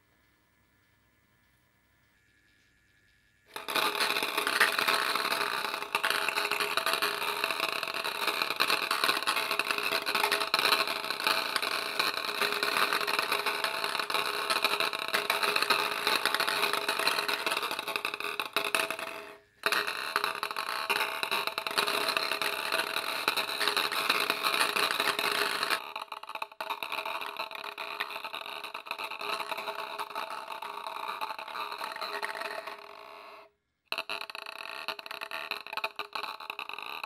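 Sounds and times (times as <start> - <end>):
balls clicking through pins: 3.5 - 33.1, 33.9 - 37.0.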